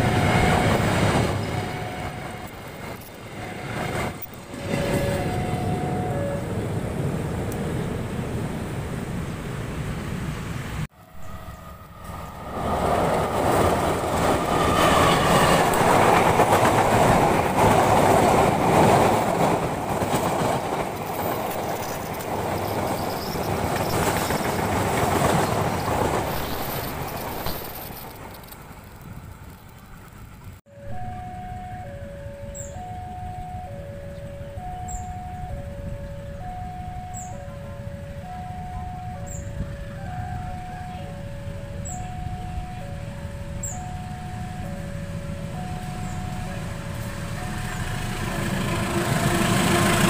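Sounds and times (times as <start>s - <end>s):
train wheels running on rails: 0.0s - 50.0s.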